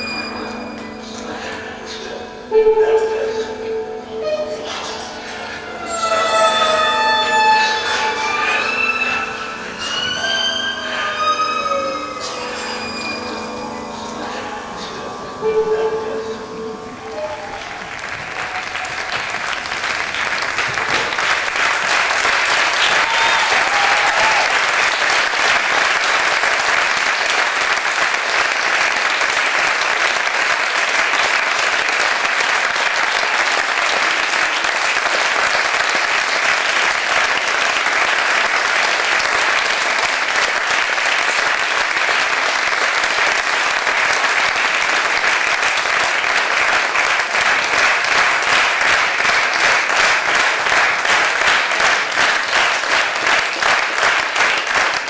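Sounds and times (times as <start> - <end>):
audience applauding: 4.7 - 13.4, 17.0 - 55.0.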